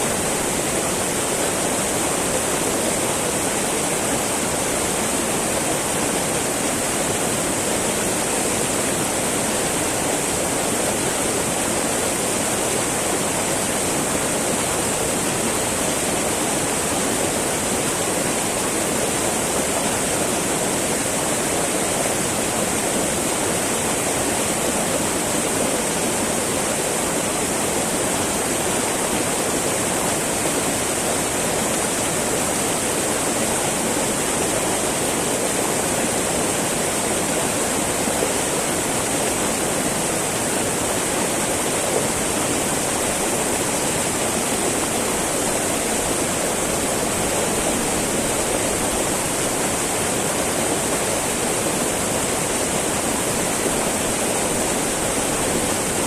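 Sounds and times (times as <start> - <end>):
river babbling over rocks: 0.0 - 56.0.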